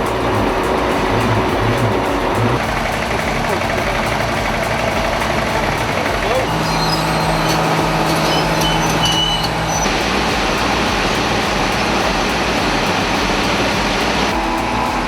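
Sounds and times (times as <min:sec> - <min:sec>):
heavy machinery engine running: 0:00.0 - 0:15.0
steady low tone: 0:00.0 - 0:15.0.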